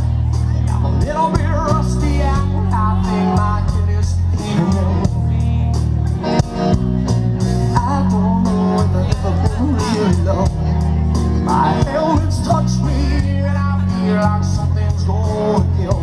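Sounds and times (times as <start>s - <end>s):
bass guitar: 0.0s - 16.0s
drum kit beat: 0.0s - 16.0s
electric guitar: 0.0s - 16.0s
man singing into microphone: 0.4s - 6.0s, 7.6s - 16.0s.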